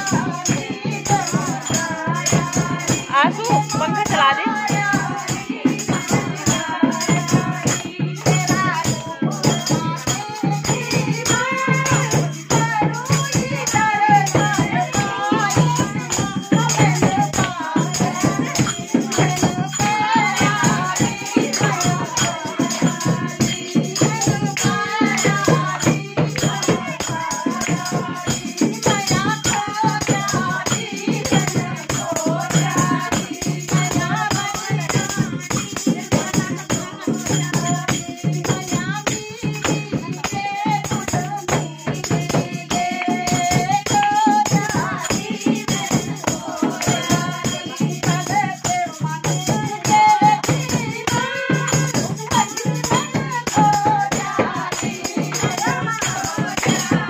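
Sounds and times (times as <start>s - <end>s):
jingling percussion: 0.0s - 57.0s
women singing devotional song: 0.0s - 57.0s.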